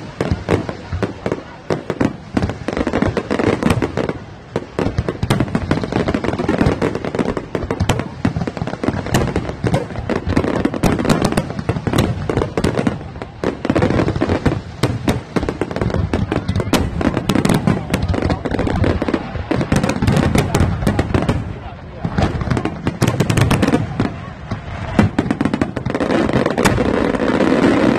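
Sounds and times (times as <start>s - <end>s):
fireworks bangs and crackling: 0.0s - 27.9s.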